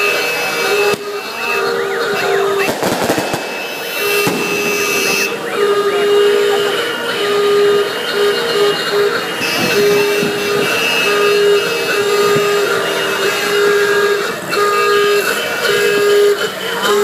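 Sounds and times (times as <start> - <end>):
crowd noise: 0.0 - 17.0
horn honking: 0.0 - 17.0.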